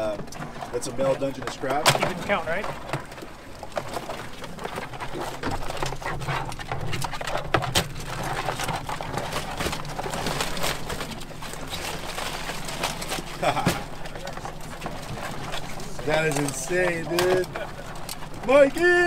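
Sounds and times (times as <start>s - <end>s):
crabs clicking and clattering: 0.0s - 19.0s.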